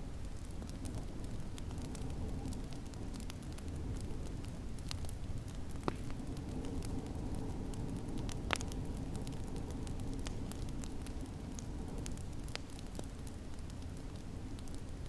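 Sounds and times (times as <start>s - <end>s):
wood fire crackling: 0.0s - 15.0s
loud fire pops: 0.2s - 15.0s.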